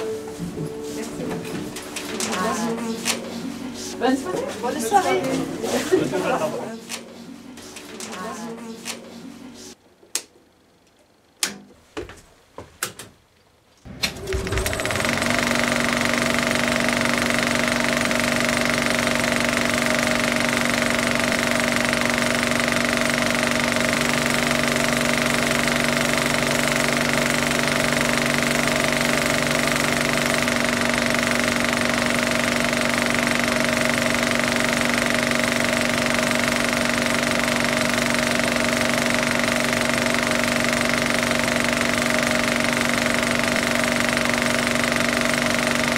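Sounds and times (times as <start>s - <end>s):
film projector humming: 0.0s - 9.8s, 13.9s - 45.9s.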